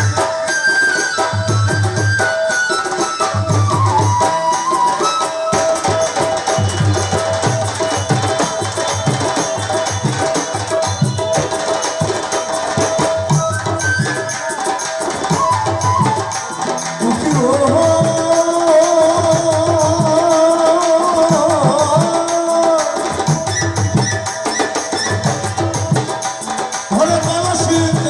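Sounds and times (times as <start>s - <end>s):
folk music with drums: 0.0s - 28.0s.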